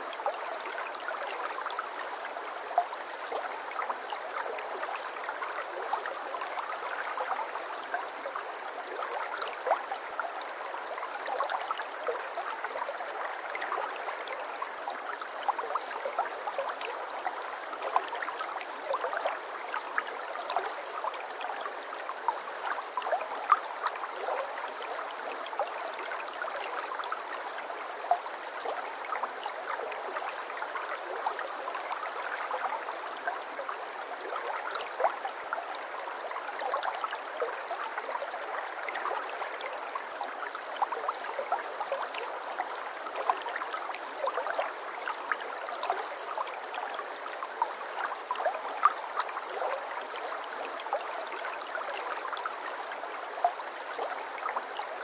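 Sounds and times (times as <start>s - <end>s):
brook water running over stones: 0.0s - 55.0s.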